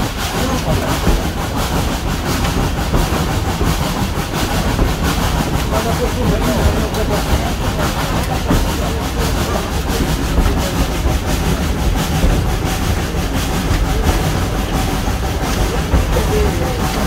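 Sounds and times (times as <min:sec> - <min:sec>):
locomotive and wheels rumbling: 0:00.0 - 0:17.0
steam exhaust beating: 0:00.0 - 0:17.0.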